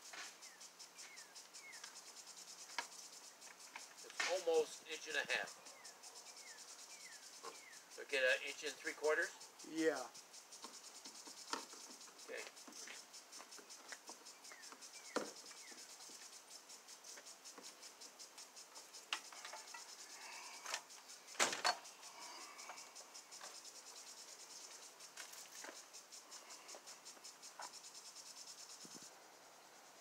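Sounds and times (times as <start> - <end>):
insect chirping: 0.0 - 30.0.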